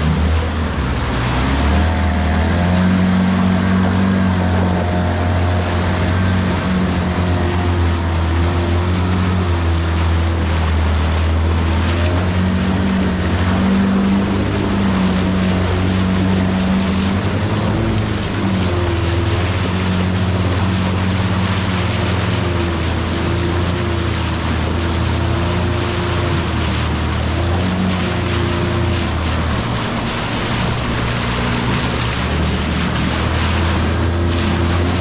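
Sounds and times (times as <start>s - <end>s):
boat wake: 0.0s - 35.0s
outboard motors droning: 0.0s - 35.0s
rapids rushing: 0.0s - 35.0s.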